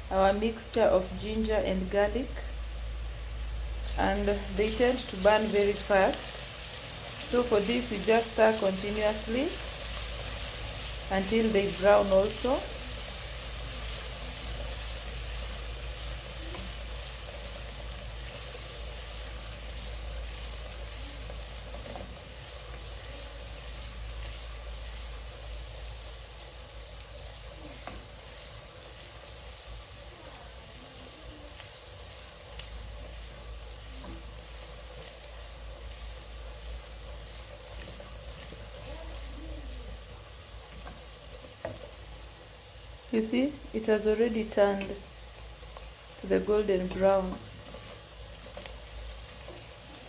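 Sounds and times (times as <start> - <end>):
onions sizzling in oil: 0.0 - 50.0.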